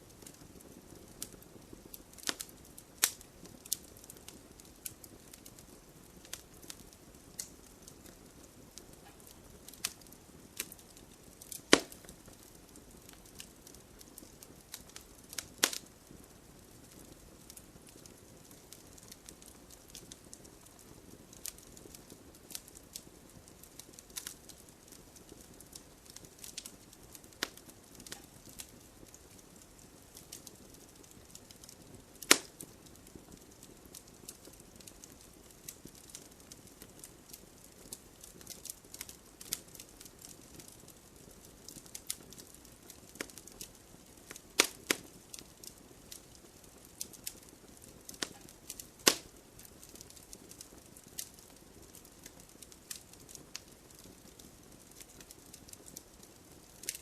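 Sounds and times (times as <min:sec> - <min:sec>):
wood fire crackling: 0:00.0 - 0:57.0
sharp pops of fire: 0:00.1 - 0:57.0.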